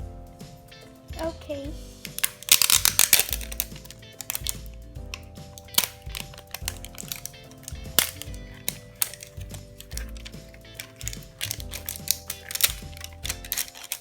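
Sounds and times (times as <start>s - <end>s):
background music: 0.0s - 14.0s
toy egg shell cracking: 2.0s - 14.0s.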